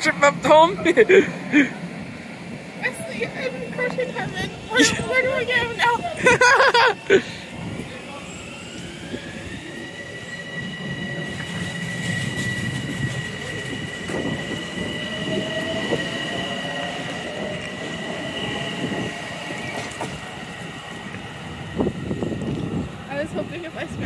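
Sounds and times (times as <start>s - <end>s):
train cars rumbling: 0.0s - 24.0s
train motor whine: 2.1s - 24.0s.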